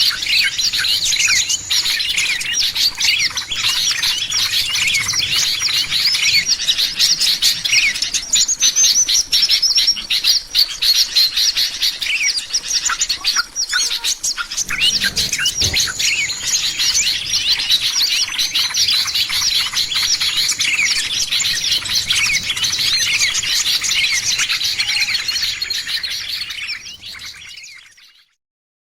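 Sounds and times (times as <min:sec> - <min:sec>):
songbirds chirping and twittering: 0:00.0 - 0:28.4.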